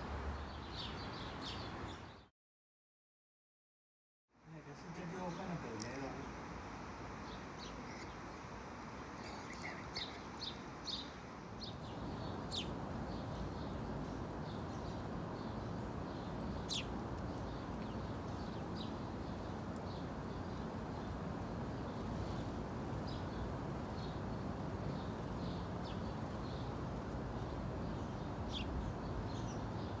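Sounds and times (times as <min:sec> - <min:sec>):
small birds chirping: 0:00.4 - 0:02.3, 0:07.2 - 0:30.0
steady low background noise: 0:04.4 - 0:30.0.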